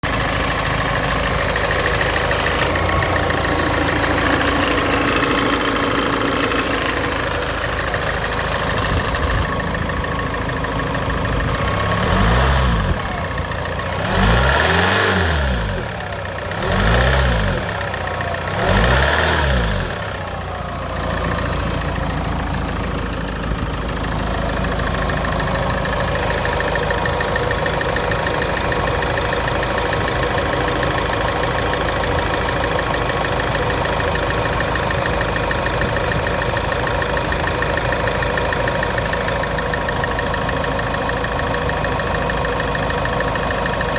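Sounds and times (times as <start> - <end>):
diesel engine idling and revving: 0.0 - 43.9.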